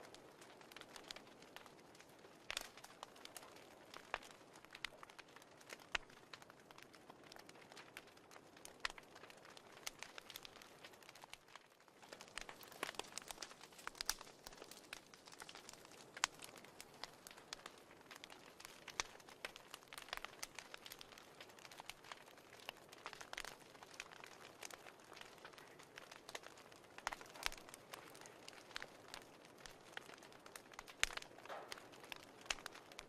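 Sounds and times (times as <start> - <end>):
fireplace crackling: 0.0 - 33.0.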